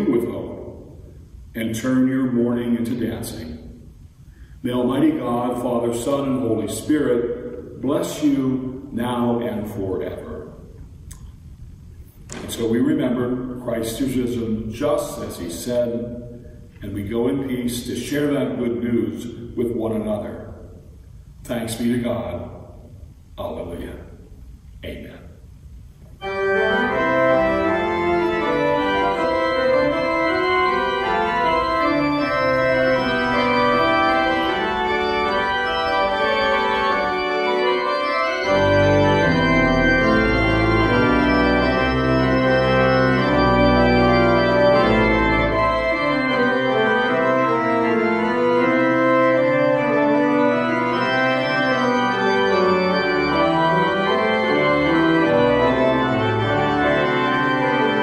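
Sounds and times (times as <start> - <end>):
church organ playing chords: 0.0 - 10.9, 12.3 - 25.3, 26.1 - 58.0.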